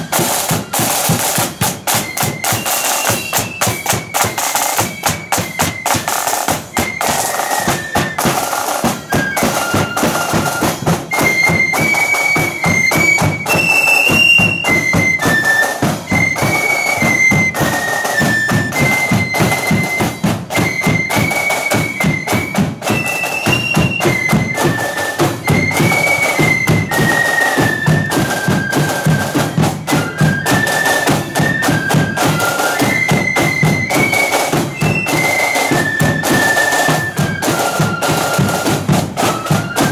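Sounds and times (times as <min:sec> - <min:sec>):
flutes playing melody: 0:00.0 - 0:39.9
side drums marching rhythm: 0:00.0 - 0:39.9.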